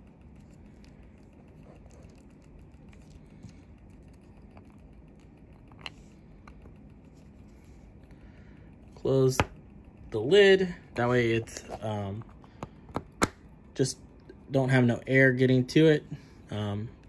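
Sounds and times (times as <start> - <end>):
low room noise: 0.0 - 17.0.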